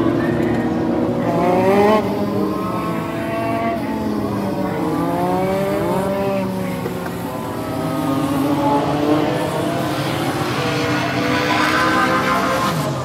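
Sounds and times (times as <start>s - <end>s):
race car engines revving high: 0.0s - 13.0s.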